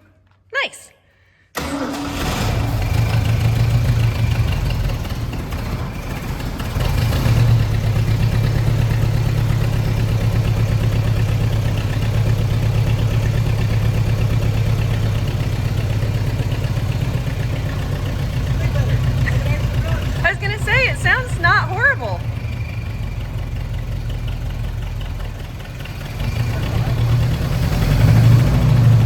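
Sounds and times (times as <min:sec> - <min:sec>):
dirt bike engine idling: 0:03.3 - 0:27.5.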